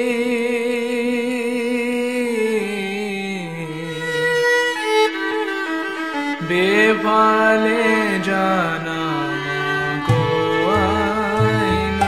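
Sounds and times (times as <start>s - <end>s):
devotional song with vibrato: 0.0s - 12.0s.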